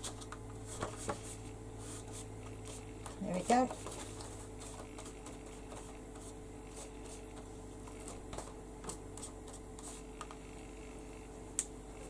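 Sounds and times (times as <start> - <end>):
paper rustling and ticks: 0.0 - 1.2, 2.0 - 10.4
low electrical hum: 0.0 - 12.0.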